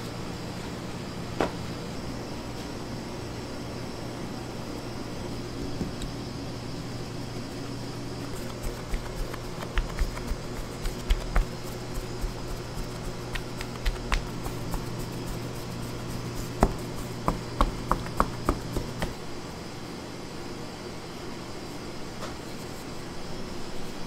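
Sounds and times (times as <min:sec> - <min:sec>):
bakery machinery humming: 0:00.0 - 0:24.0.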